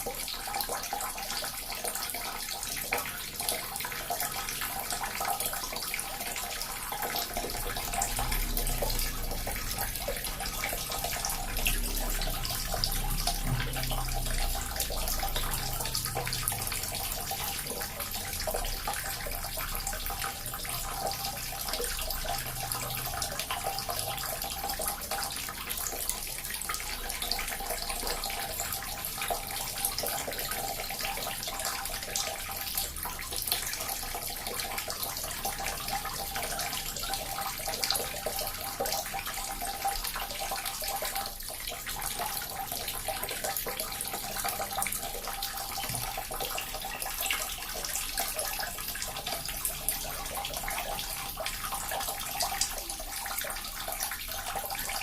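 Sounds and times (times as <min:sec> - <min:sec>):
small water fountain splashing: 0:00.0 - 0:55.0.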